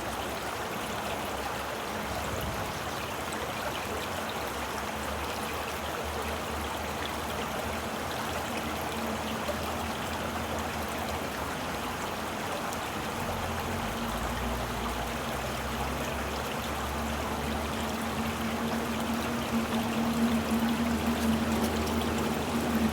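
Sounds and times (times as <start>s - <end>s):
stream water flowing: 0.0s - 22.9s.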